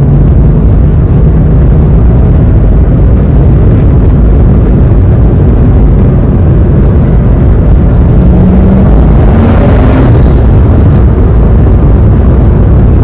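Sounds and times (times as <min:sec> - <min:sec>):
car engine at steady speed: 0:00.0 - 0:13.0
road and wind noise: 0:00.0 - 0:13.0.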